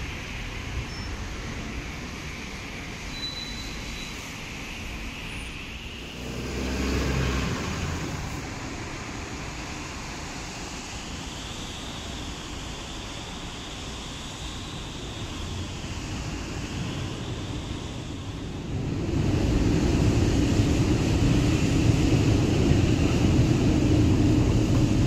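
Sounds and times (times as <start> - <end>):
bus diesel engine rumble: 0.0 - 25.0
traffic noise: 0.0 - 25.0.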